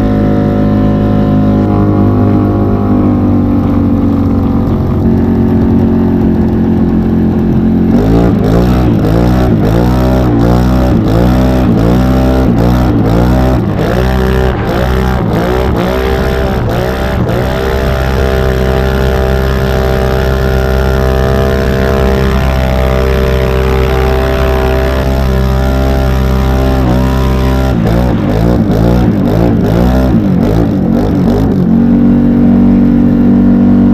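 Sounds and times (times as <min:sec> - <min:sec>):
engine revving on rev limiter: 0:00.0 - 0:33.9.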